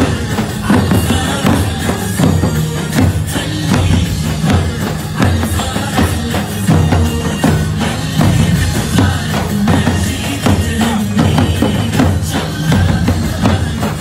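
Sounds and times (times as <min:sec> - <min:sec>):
steady drum beat: 0:00.0 - 0:14.0.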